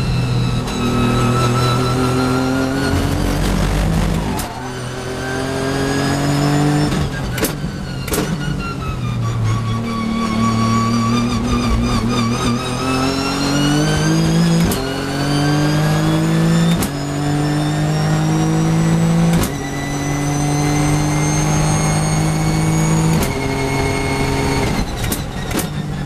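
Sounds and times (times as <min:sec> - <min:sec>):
race car engine at full throttle: 0:00.0 - 0:26.0.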